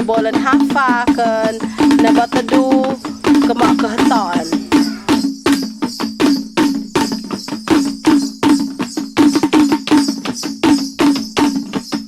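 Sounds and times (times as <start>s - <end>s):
drumming with ringing strikes: 0.0s - 12.0s.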